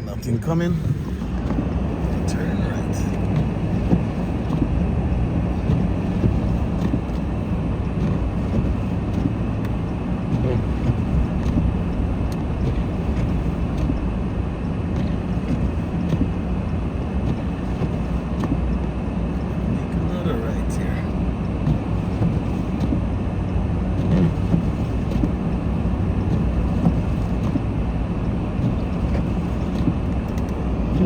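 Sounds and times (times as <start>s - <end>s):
car engine hum: 0.0s - 31.0s
road rumble: 0.0s - 31.0s.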